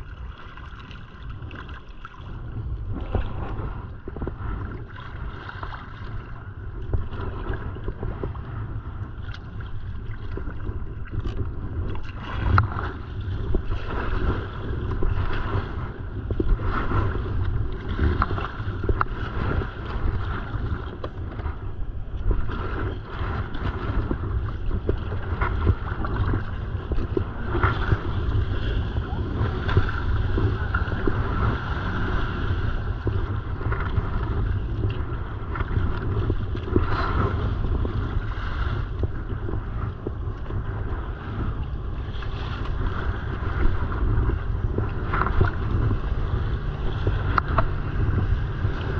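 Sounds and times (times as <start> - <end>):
kayak paddle splashing: 0.0 - 48.9
small waves lapping hull: 0.0 - 48.9
wind buffeting microphone: 0.0 - 48.9.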